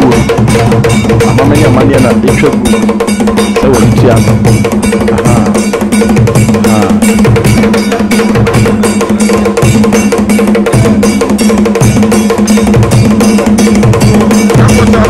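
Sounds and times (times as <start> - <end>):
drum-led percussion music: 0.0 - 15.0.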